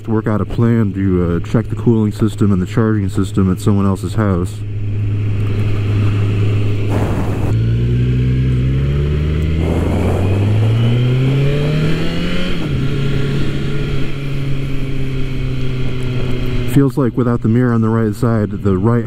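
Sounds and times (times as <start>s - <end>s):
motorcycle engine accelerating: 0.2s - 16.9s.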